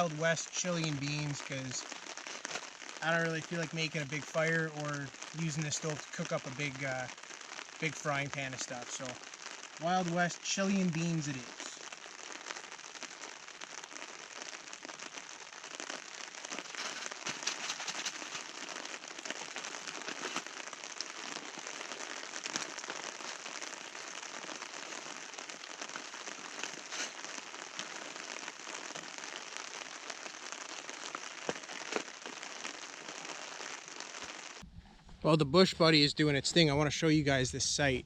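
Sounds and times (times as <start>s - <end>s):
sharp raindrop ticks: 0.0s - 34.6s
steady rain falling: 0.0s - 34.7s.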